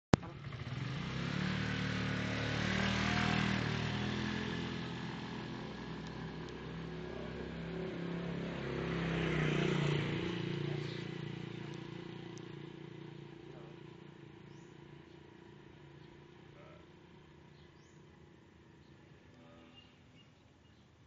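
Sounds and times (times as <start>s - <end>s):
scooter engine pulling away: 0.2s - 19.9s
motorcycle engine passing: 0.2s - 20.3s.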